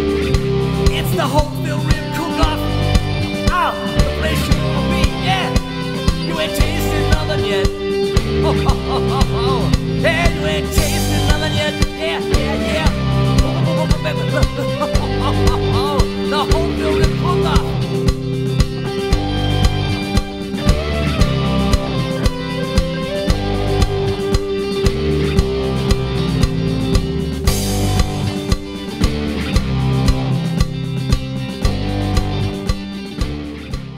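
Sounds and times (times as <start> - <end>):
instrumental music with drums and guitar: 0.0 - 33.9.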